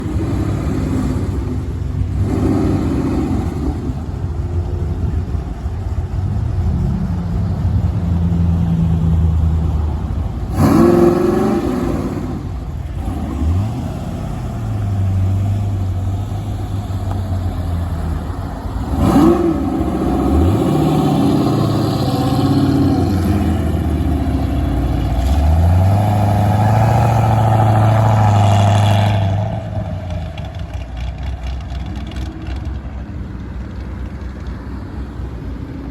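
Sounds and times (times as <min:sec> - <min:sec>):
car engines revving: 0:00.0 - 0:35.9.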